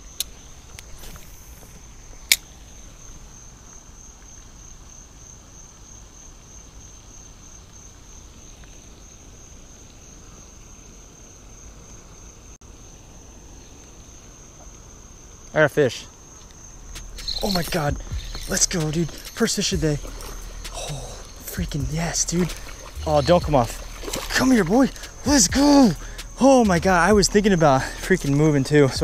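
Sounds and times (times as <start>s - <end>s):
faint outdoor hiss: 0.0s - 29.0s
insects trilling: 0.0s - 29.0s.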